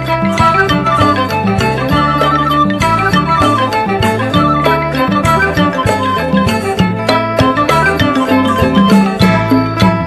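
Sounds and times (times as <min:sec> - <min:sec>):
folk dance music: 0:00.0 - 0:10.0.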